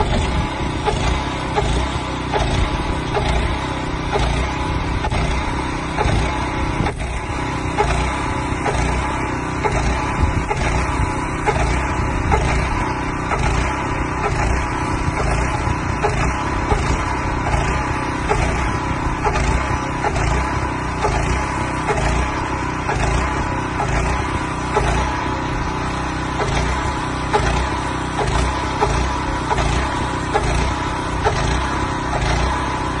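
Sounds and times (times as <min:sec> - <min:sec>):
pump pulsing: 0:00.0 - 0:33.0
small gas engine running: 0:00.0 - 0:33.0.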